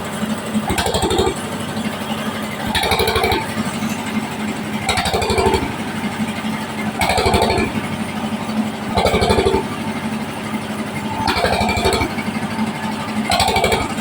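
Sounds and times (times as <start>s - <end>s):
band saw running: 0.0s - 14.0s
saw cutting wood: 2.0s - 14.0s.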